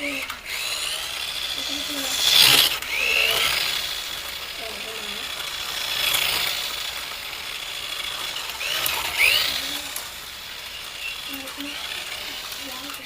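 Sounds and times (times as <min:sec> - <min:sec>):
small toy motor whirring: 0:00.0 - 0:13.0.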